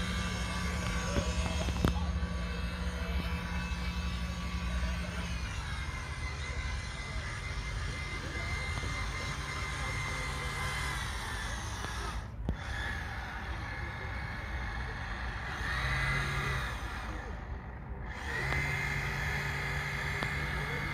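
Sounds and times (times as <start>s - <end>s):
electric motor whining: 0.0s - 20.9s.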